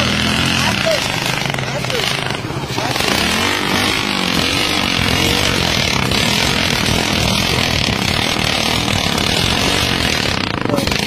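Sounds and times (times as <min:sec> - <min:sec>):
motorcycle engine running: 0:00.0 - 0:11.0
steady rushing noise: 0:00.0 - 0:11.0.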